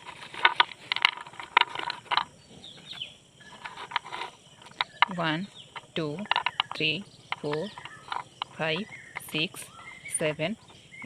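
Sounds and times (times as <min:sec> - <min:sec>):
pencils and packet clicking and rustling: 0:00.0 - 0:10.4.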